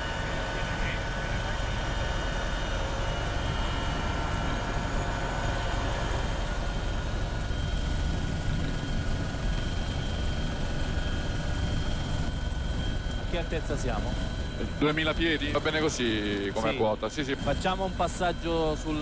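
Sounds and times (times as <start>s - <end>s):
helicopter rotor and engine noise: 0.0s - 19.0s
high turbine whine: 0.0s - 19.0s.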